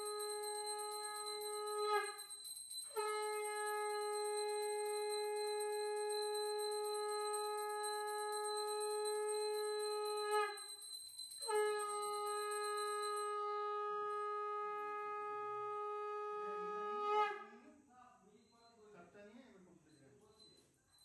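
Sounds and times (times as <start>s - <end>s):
conch shell blasts: 0.0s - 17.5s.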